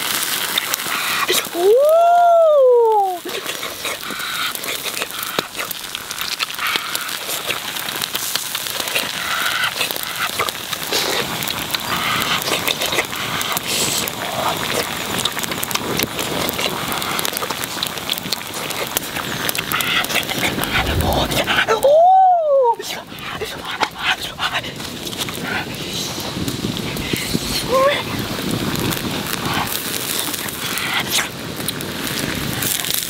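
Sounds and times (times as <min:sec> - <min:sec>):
squid sizzling on hot stone: 0:00.0 - 0:33.0
wood fire crackling and popping: 0:00.0 - 0:33.0.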